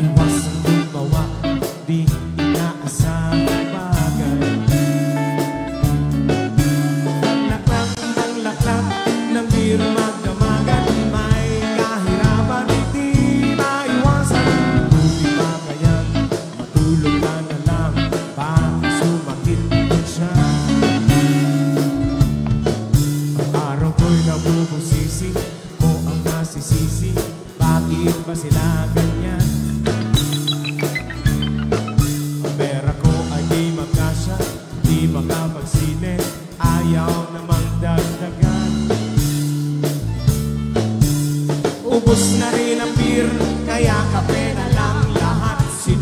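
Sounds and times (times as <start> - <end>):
person singing: 0.0 - 5.5, 6.6 - 21.7, 23.4 - 39.0, 41.8 - 46.0
live band playing pop: 0.0 - 46.0.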